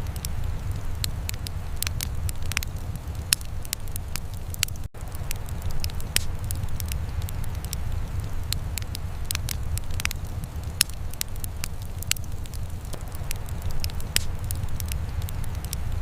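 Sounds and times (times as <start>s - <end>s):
wood fire crackling: 0.0s - 16.0s
sharp pops: 1.0s - 16.0s.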